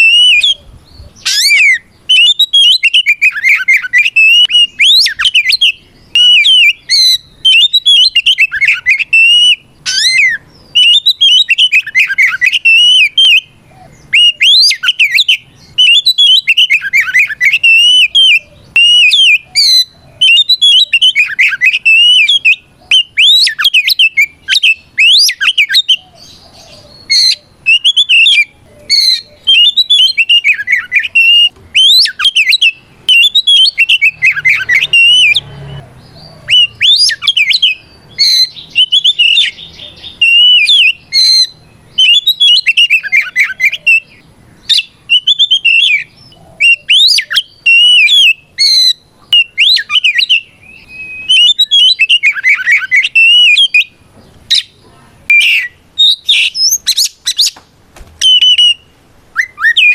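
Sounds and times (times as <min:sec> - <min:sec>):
bird singing whistles and chirps: 0:00.0 - 0:57.6, 0:58.2 - 0:59.9.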